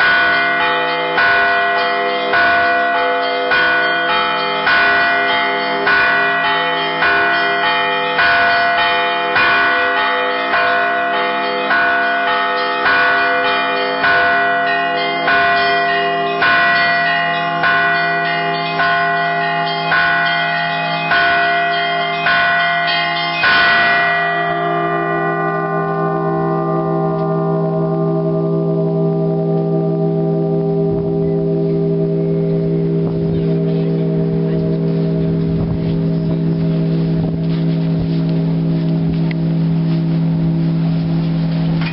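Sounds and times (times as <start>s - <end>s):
bells humming: 0.0s - 41.9s
church bells ringing: 0.0s - 41.9s.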